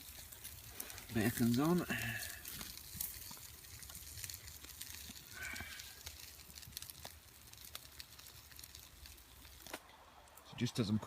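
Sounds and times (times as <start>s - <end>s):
bacon sizzling over campfire: 0.0s - 11.0s
fire crackles and pops: 0.0s - 11.0s.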